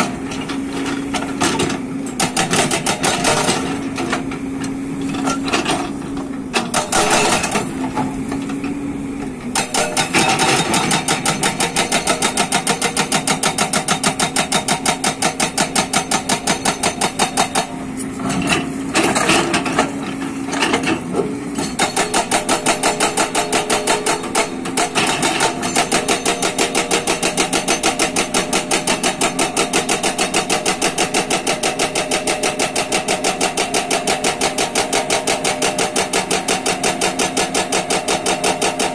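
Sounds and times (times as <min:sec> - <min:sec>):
excavator engine running: 0:00.0 - 0:38.9
hydraulic rock breaker hammering: 0:00.0 - 0:38.9.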